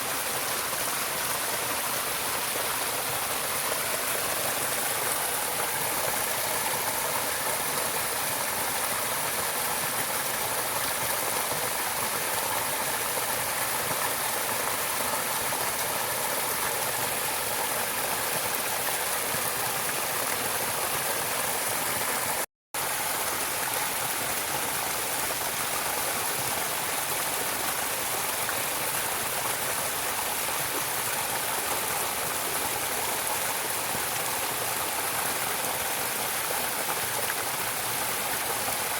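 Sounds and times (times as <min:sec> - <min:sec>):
rushing water hiss: 0:00.0 - 0:38.9.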